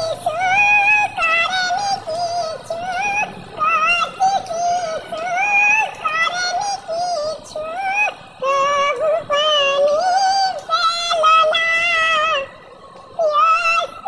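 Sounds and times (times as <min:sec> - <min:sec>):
high-pitched voice singing lament: 0:00.0 - 0:12.6, 0:13.2 - 0:14.0.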